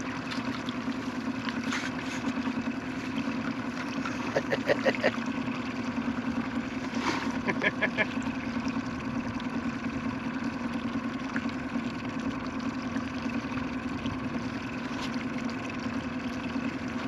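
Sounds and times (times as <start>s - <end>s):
boat motor droning: 0.0s - 17.0s.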